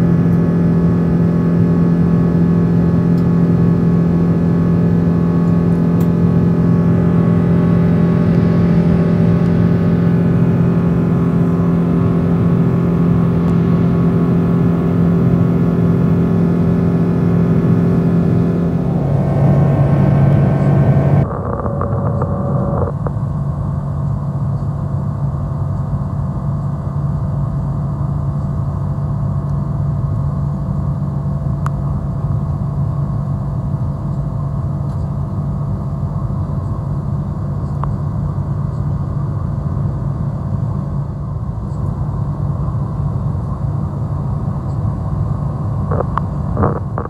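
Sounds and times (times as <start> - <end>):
faint steady whine: 0.0 - 47.0
jet engine cabin drone: 0.0 - 47.0.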